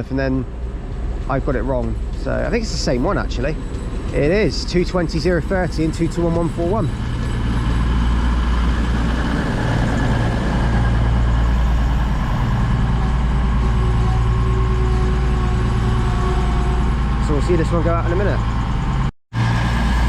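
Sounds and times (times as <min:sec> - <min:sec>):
diesel train engines idling: 0:00.0 - 0:20.0.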